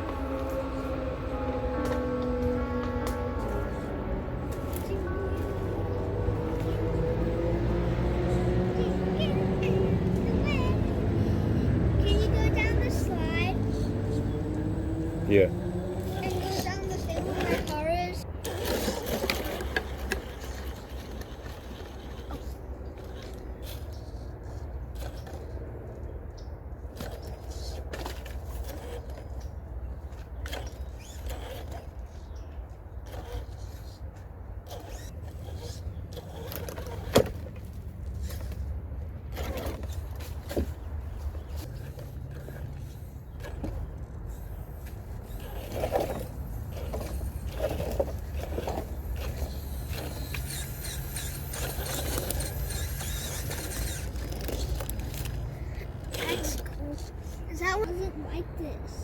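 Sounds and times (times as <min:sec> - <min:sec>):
rc car motor whining: 0:00.0 - 0:24.3, 0:27.0 - 0:29.3, 0:30.5 - 0:32.3, 0:33.0 - 0:34.0, 0:34.7 - 0:38.7, 0:41.4 - 0:57.8.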